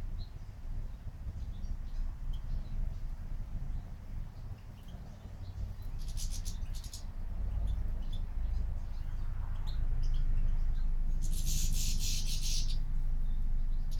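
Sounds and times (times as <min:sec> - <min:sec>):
songbird twittering: 0:00.1 - 0:13.9.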